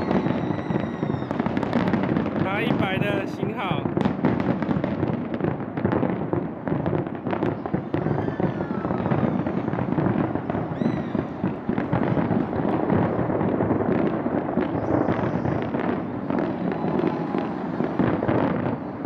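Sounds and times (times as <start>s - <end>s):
fireworks crackling bangs: 0.0s - 19.0s.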